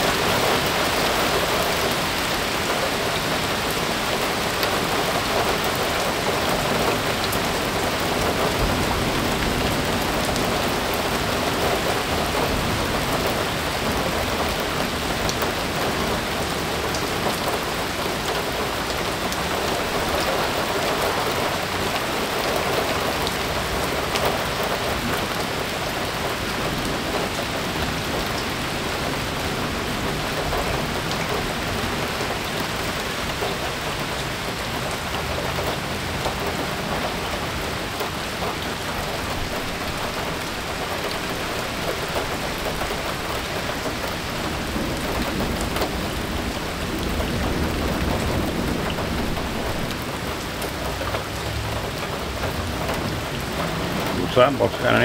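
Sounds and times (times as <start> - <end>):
heavy rain splashing into water: 0.0 - 55.0.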